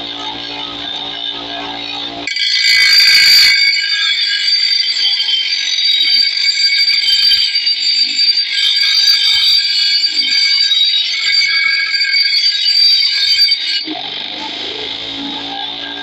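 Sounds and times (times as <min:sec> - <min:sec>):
bench grinder screeching on steel: 0:00.0 - 0:16.0.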